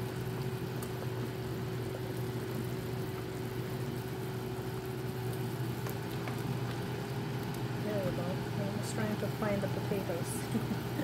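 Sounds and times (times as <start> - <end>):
soup boiling in pot: 0.0 - 11.0
steady low motor hum: 0.0 - 11.0.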